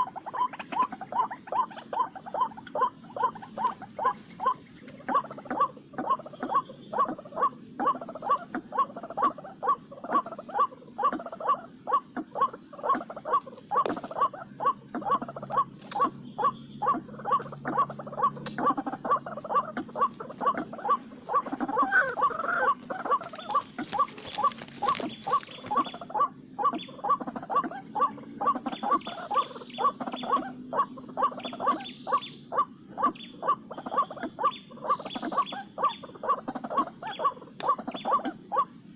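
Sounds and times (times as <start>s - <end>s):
bird croaking call: 0.0s - 38.9s.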